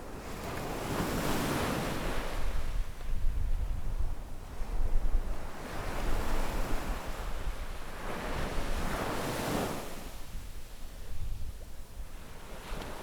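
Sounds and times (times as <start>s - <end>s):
low wind rumble on microphone: 1.9s - 12.8s.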